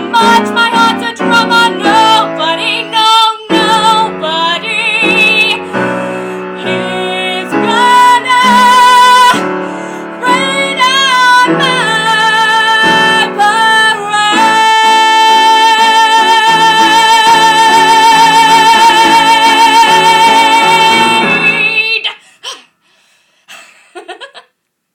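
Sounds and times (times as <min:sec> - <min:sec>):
woman singing with vibrato: 0:00.0 - 0:22.6.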